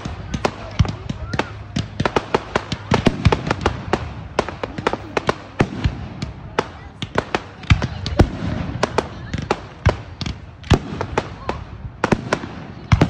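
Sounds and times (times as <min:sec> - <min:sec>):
fireworks cracking and popping: 0:00.0 - 0:13.0.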